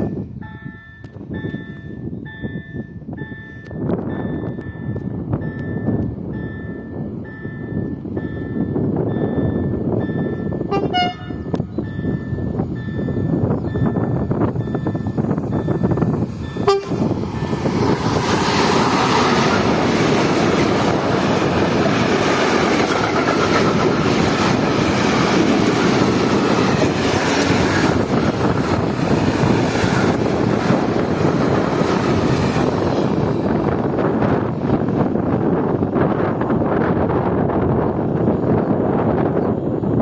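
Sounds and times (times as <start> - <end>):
freight train rolling past: 0.0 - 40.0
wheels on rail: 0.0 - 40.0.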